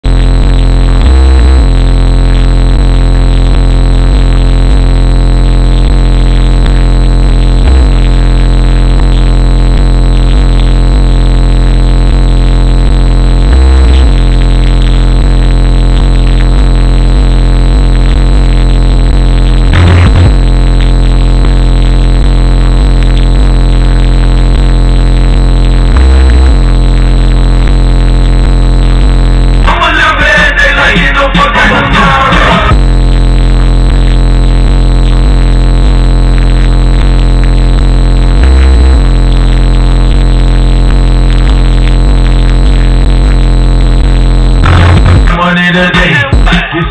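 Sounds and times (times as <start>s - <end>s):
bass-heavy electronic music: 0.0s - 46.9s.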